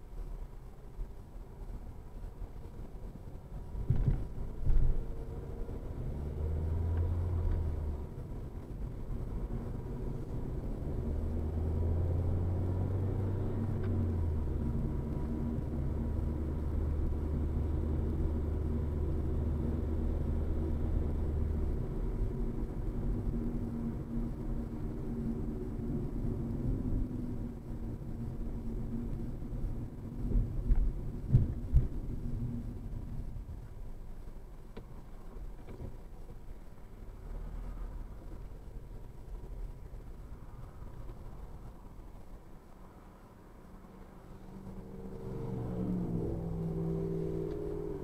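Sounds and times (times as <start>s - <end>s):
car road noise rumble: 0.0s - 48.0s.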